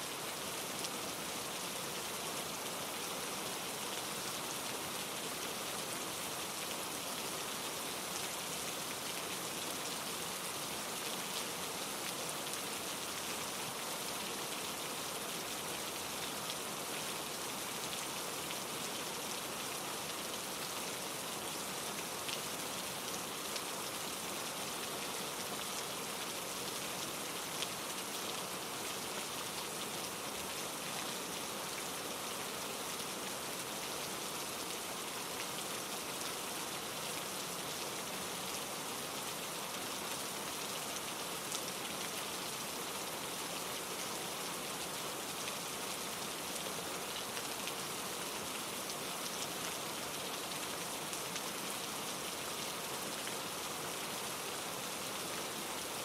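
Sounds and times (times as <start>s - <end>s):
rain on leaves and ground: 0.0s - 56.0s
stream rushing over rocks: 0.0s - 56.0s.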